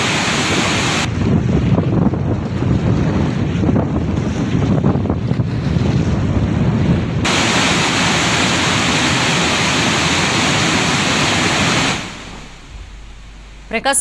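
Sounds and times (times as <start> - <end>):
floodwater rushing through spillway: 0.0 - 12.7
wind buffeting microphone: 0.0 - 13.8.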